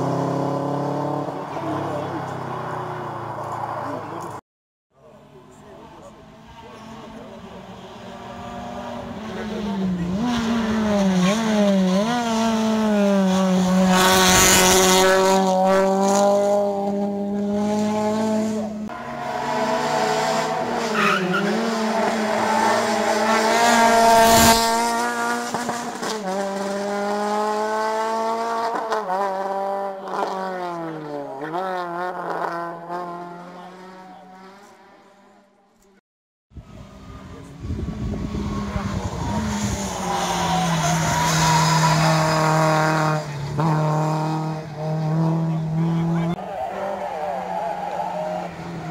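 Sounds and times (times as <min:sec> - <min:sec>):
rally car engines revving: 0:00.0 - 0:04.4, 0:05.1 - 0:35.9, 0:36.6 - 0:48.9.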